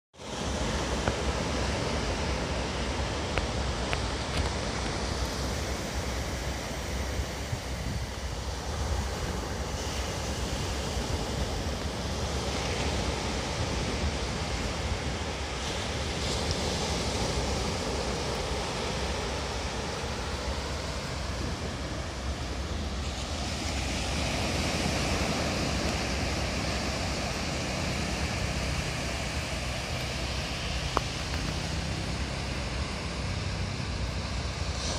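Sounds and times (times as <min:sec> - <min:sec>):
small waves washing onto sand: 0:00.2 - 0:34.9
wind noise on microphone: 0:00.3 - 0:34.9.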